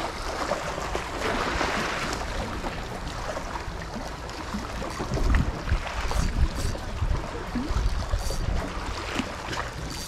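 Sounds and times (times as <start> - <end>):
sea water lapping on rocks: 0.0 - 10.0
wind rumble on microphone: 0.0 - 10.0.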